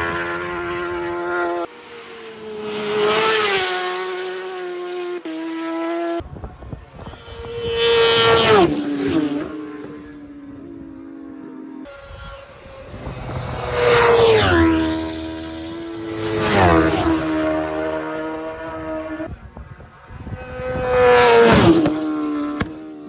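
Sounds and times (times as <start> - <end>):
motorbikes racing past: 0.0 - 23.0.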